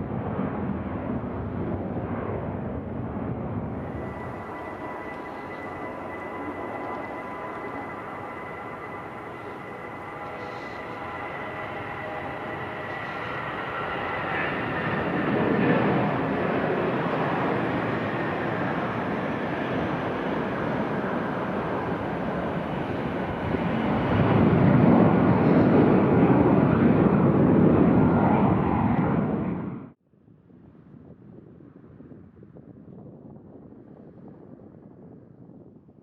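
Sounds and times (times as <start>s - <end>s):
jet engines whining and roaring: 0.0s - 30.0s.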